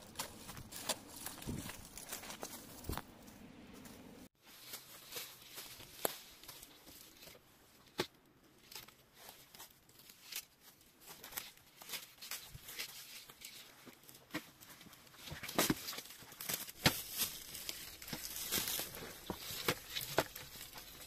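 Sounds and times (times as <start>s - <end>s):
dry leaves and twigs crunching: 0.0s - 21.0s.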